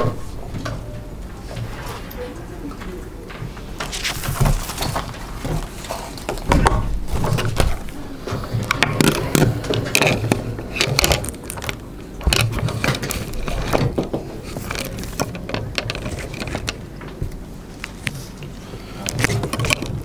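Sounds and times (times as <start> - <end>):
low steady hum: 0.0 - 20.0
objects clicking and knocking: 2.8 - 18.3, 19.0 - 20.0.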